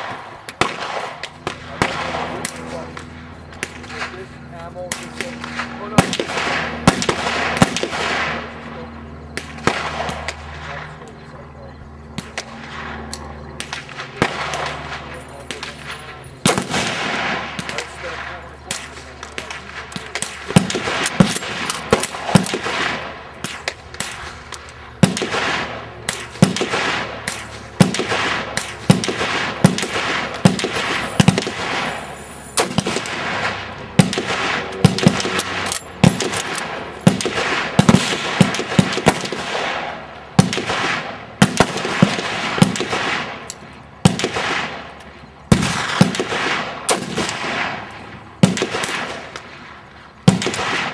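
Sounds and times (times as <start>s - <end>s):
gunshots: 0.0s - 11.4s, 12.2s - 50.9s.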